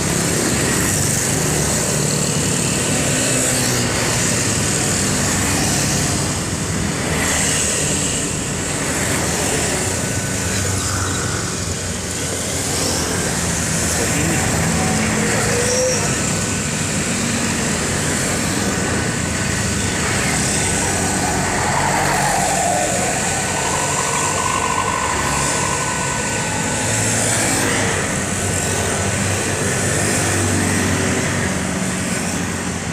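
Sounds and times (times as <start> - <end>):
diesel engine hum: 3.8 - 32.9.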